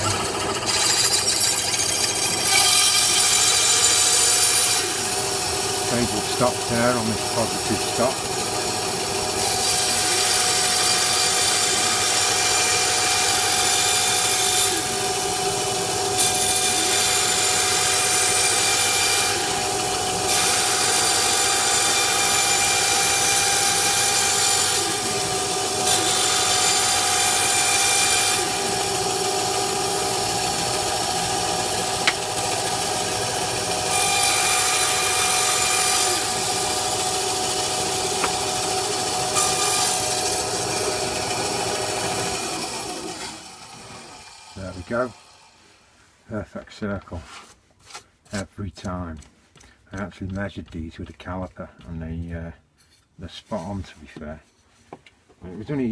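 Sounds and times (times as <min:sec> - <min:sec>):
bandsaw cutting wood: 0:00.0 - 0:45.6
bandsaw humming: 0:00.0 - 0:45.6.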